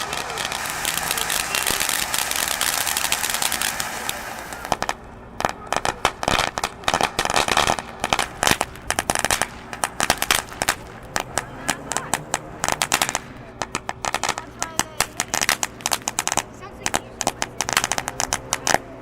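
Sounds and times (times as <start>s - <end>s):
firework hissing and crackling: 0.0s - 19.0s.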